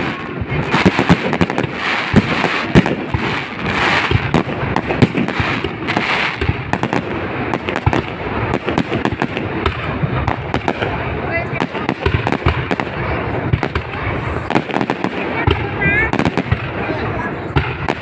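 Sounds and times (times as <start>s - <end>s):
crackling firework shells: 0.0s - 18.0s
fireworks bangs: 0.0s - 18.0s.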